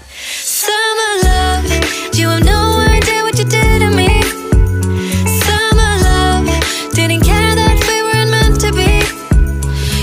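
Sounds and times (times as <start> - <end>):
pop song with singing: 0.0 - 10.0.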